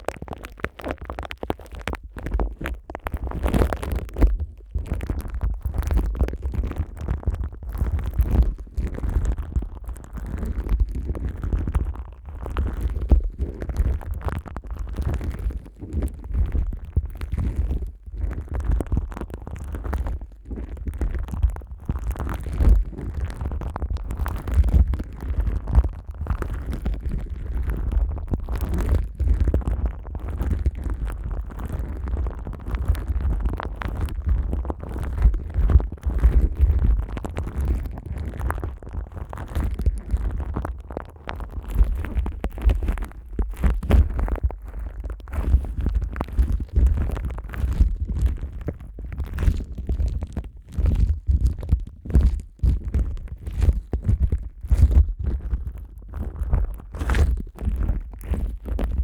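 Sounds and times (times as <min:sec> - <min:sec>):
microphone handling rumble: 0:00.0 - 0:59.0.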